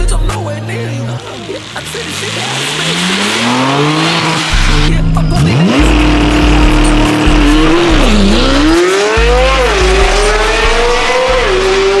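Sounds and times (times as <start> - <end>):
car engine accelerating hard: 0.6 - 12.0.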